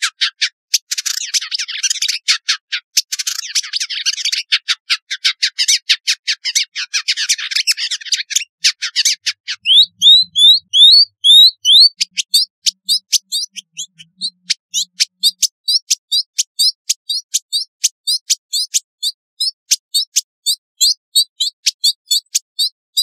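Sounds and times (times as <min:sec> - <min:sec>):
bird chirping and whistling: 0:00.2 - 0:04.5, 0:06.5 - 0:23.0.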